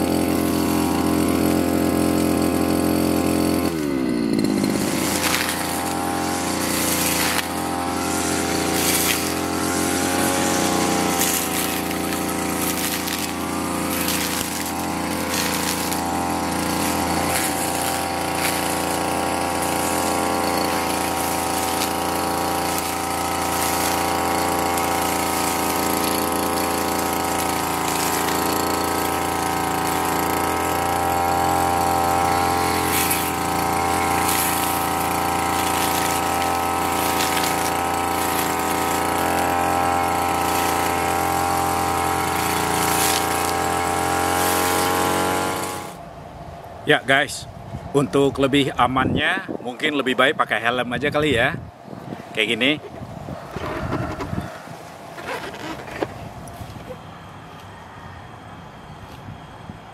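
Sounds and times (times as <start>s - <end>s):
brush cutter engine running: 0.0s - 46.2s, 49.4s - 59.4s.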